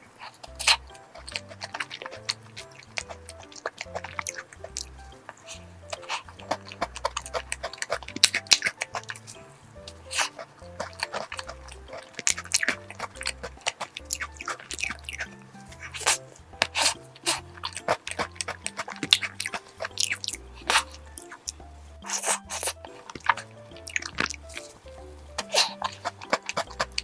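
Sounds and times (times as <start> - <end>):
biting and chewing clicks: 0.2 - 27.0
background music with bass line: 0.5 - 27.0.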